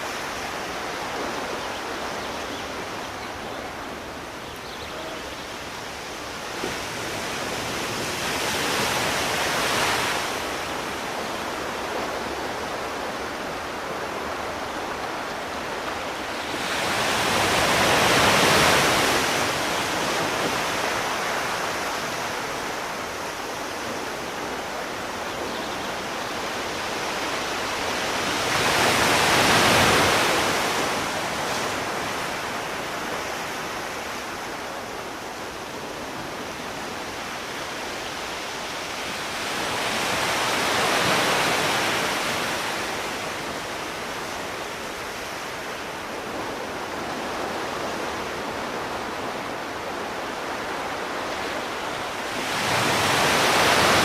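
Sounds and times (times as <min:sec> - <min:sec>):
steady wash of water: 0:00.0 - 0:04.5, 0:05.1 - 0:54.0
sea waves surging: 0:00.0 - 0:54.0.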